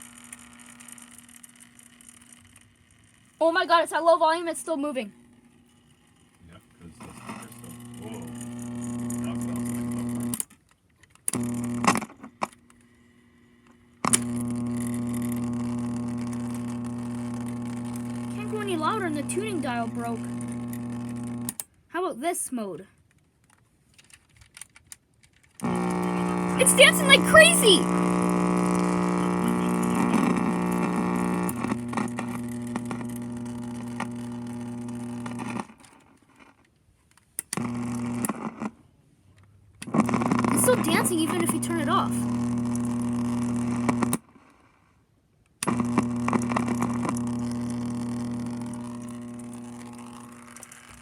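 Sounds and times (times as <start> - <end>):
electrical buzz from speaker: 0.0 - 10.5, 11.3 - 21.6, 25.6 - 35.9, 37.5 - 38.8, 39.8 - 44.4, 45.6 - 51.0.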